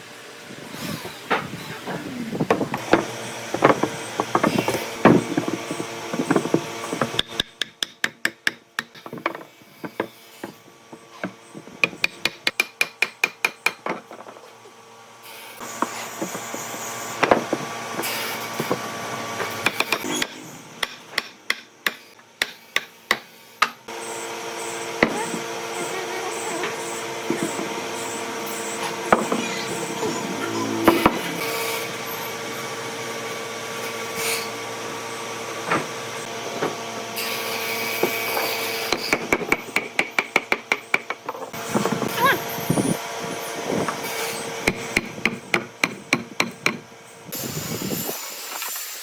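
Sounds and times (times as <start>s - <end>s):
steady workshop noise: 0.0s - 49.0s.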